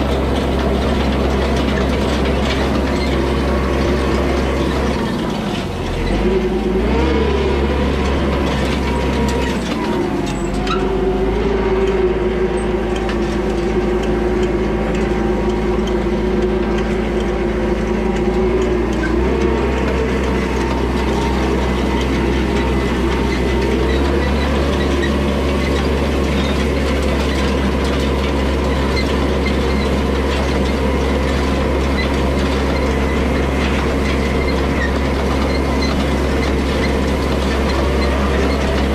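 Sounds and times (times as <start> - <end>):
hay rake clattering: 0.0 - 38.9
tractor diesel engine running: 0.0 - 38.9.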